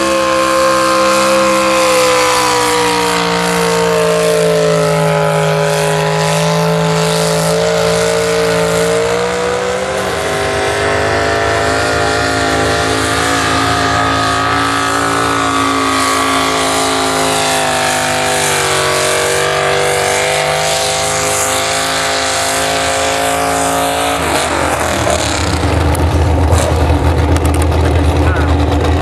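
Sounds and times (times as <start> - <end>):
truck engine at high revs: 0.0 - 29.0
low rumble: 2.2 - 29.0.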